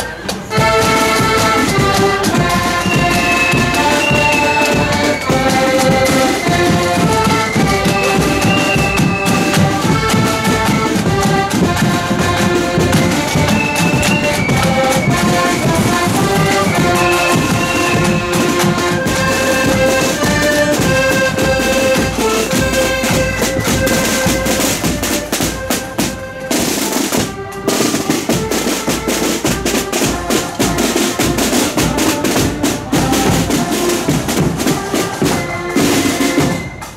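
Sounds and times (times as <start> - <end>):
accordion band playing a tune: 0.0 - 36.9
marching drums and rolls: 0.0 - 36.9.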